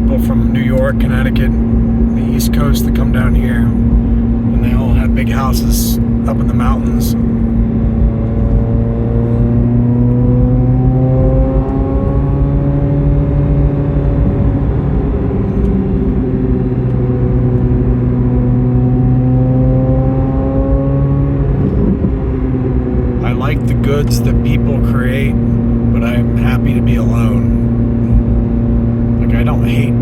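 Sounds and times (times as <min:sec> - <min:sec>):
car engine under load: 0:00.0 - 0:30.0.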